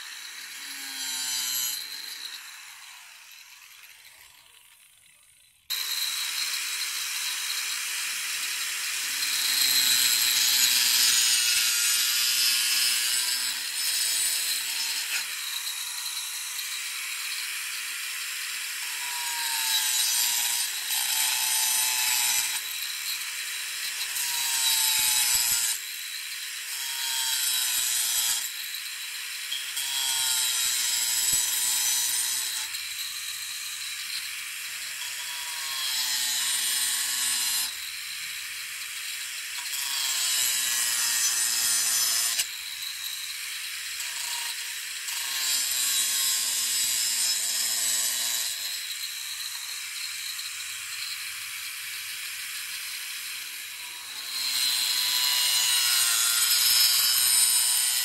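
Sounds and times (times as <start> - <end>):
angle grinder cutting plastic pipe: 0.0 - 58.0.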